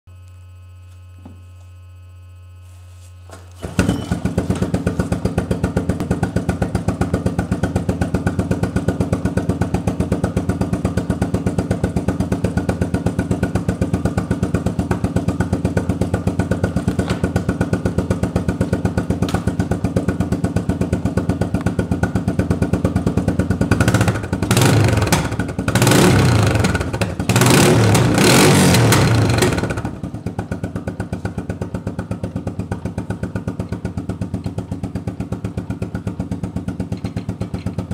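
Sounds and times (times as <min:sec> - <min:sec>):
engine idling: 0:03.6 - 0:37.9
engine throttle blips: 0:03.6 - 0:37.9.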